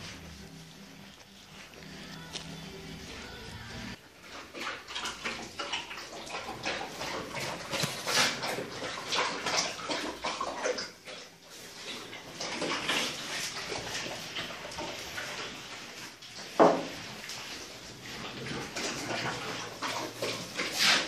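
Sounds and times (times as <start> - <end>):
dogs lapping water: 0.0 - 21.0.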